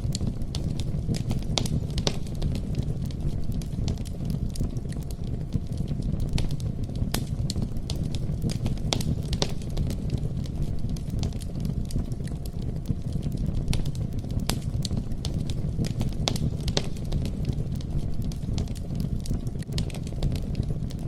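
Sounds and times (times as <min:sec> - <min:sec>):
campfire pops and crackles: 0:00.0 - 0:21.0
low rumble of flames: 0:00.0 - 0:21.0.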